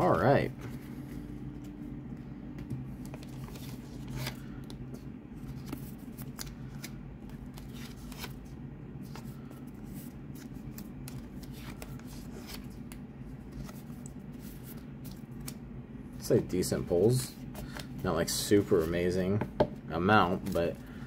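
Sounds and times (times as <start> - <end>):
low hum: 0.0 - 18.9.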